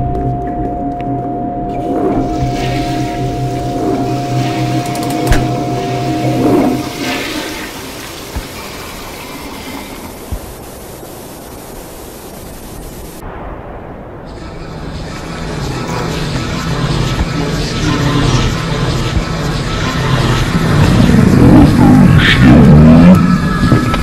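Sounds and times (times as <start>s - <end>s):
steady hum: 0.0s - 23.5s.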